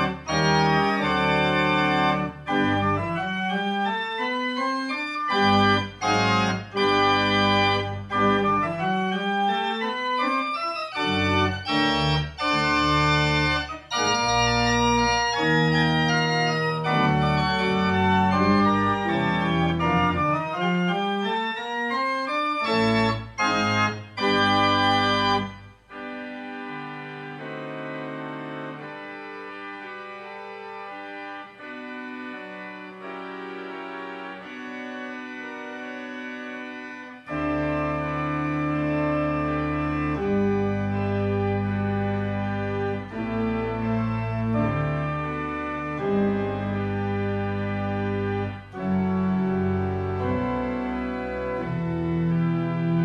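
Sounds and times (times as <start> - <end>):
church organ playing: 0.0 - 53.0.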